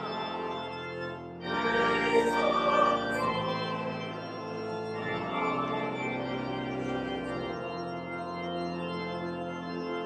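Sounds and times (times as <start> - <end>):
church organ chords: 0.0 - 10.0.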